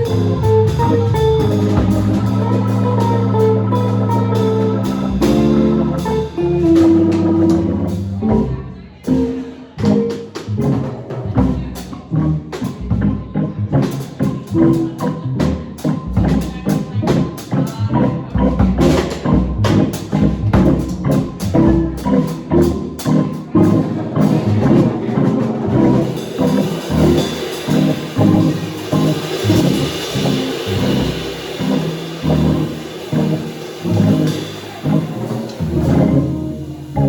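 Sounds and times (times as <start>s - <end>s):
band playing instrumental music: 0.0s - 37.0s
drums keeping steady beat: 0.0s - 37.0s.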